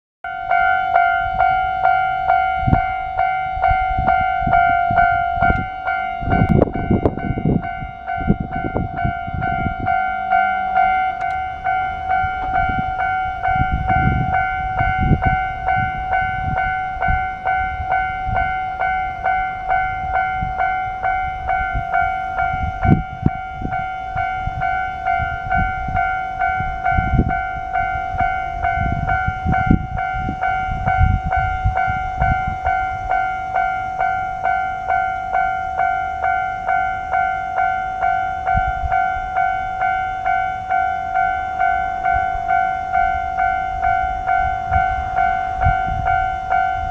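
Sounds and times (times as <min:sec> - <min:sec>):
level crossing alarm ringing: 0:00.2 - 0:46.9.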